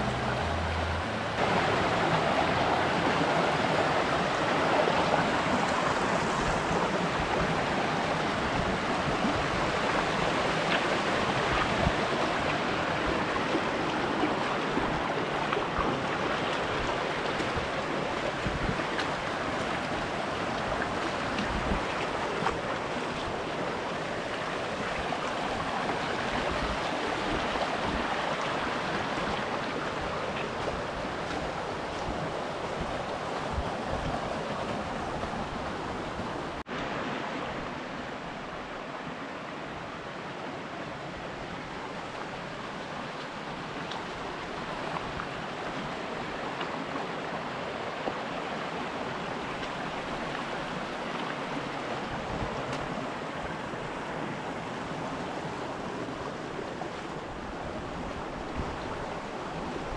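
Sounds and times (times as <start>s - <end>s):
creek rushing over stones: 0.0s - 59.9s.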